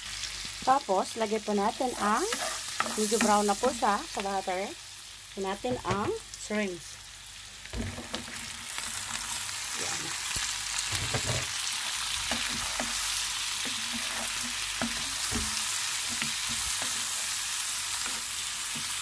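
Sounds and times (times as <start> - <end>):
shrimp sizzling in a pan: 0.0 - 19.0.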